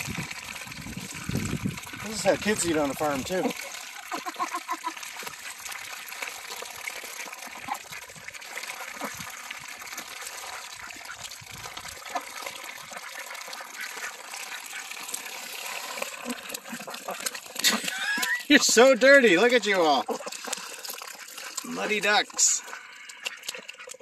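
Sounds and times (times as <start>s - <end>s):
ducks slurping and splashing: 0.0s - 24.0s.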